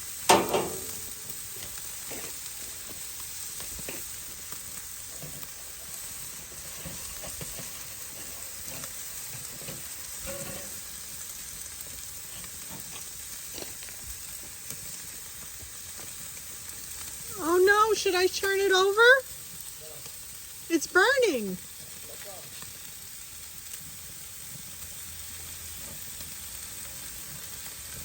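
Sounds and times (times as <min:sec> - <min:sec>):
faint crackles: 0:00.0 - 0:28.0
steaks sizzling on a grill: 0:00.0 - 0:28.0.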